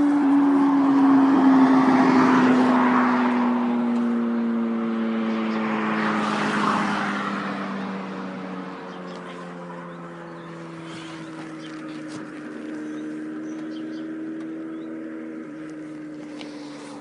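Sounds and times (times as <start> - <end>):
passing car traffic: 0.0 - 17.0.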